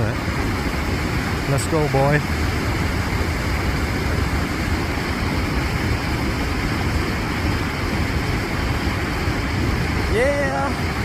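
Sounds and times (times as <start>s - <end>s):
white water rushing: 0.0s - 11.0s.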